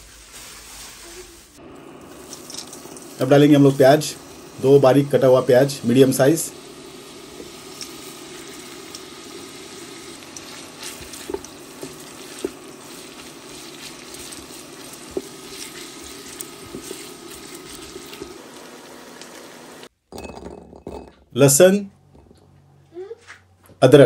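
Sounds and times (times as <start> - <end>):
onions sizzling in hot oil: 0.0 - 19.9.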